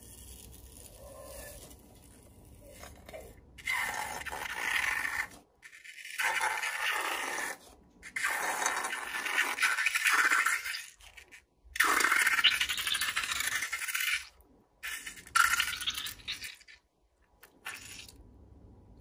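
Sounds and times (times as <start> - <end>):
slime squelching and squirting: 0.0 - 18.2.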